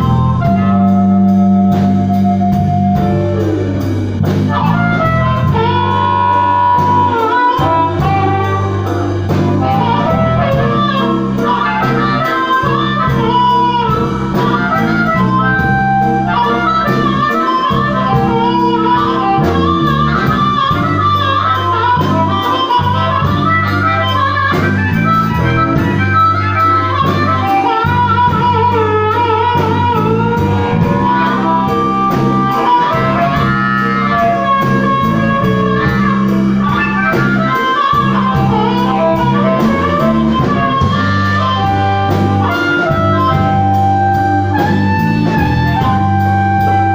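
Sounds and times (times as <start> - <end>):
blues band playing: 0.0 - 46.9.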